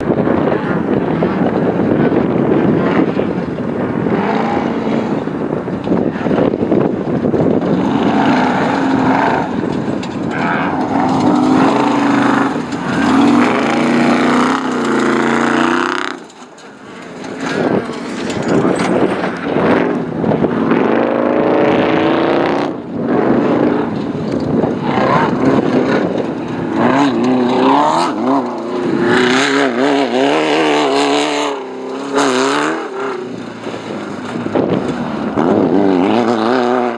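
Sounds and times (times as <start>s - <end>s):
race vehicle engine revving: 0.0s - 36.9s.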